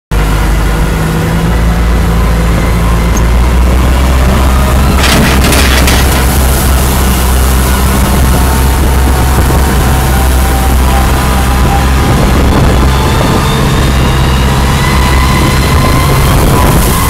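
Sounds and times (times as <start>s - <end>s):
forklift engine running: 0.1s - 17.0s.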